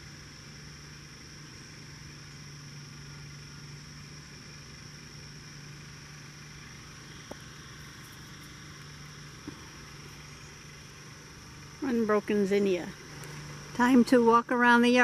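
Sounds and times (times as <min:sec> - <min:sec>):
generator engine humming: 0:00.0 - 0:15.0
insects droning: 0:00.0 - 0:15.0.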